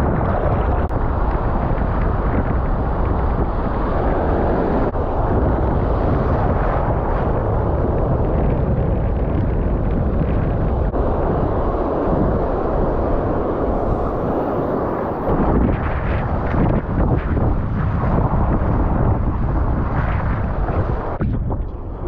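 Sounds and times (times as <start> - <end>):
breaking surf: 0.0 - 22.0
wind buffeting microphone: 0.0 - 22.0.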